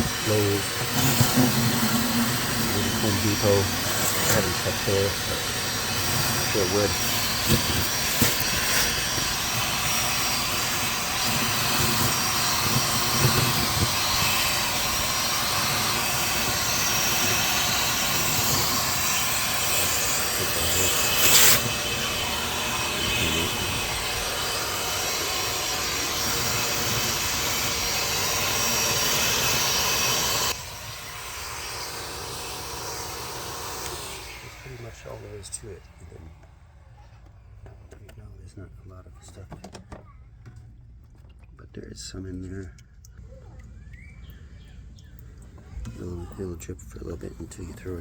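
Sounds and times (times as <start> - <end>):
shop vac motor running: 0.0 - 39.9, 45.0 - 48.0.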